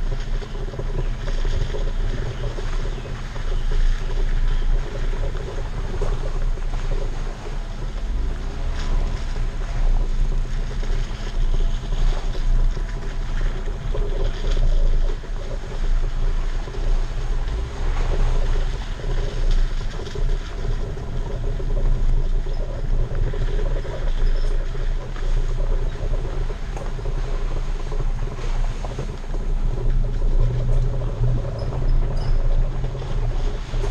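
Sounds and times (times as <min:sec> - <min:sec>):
engine rumble: 0:00.0 - 0:33.9
tires on dirt and gravel: 0:00.0 - 0:33.9
wind buffeting microphone: 0:00.0 - 0:33.9.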